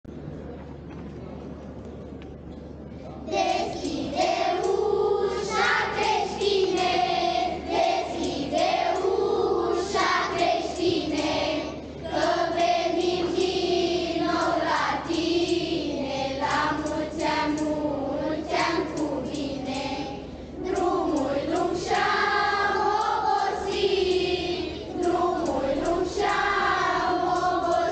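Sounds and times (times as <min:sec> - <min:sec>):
children singing in unison: 0:03.3 - 0:27.9.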